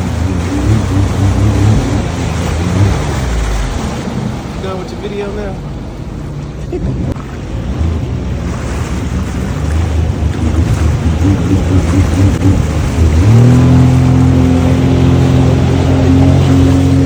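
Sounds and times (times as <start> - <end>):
jet ski engine running: 0.0 - 17.0
rushing water: 0.0 - 17.0.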